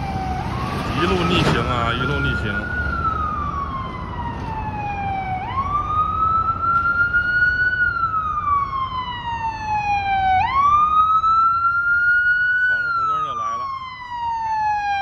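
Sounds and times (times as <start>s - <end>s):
ambulance siren wailing: 0.0s - 15.0s
city traffic noise: 0.0s - 15.0s.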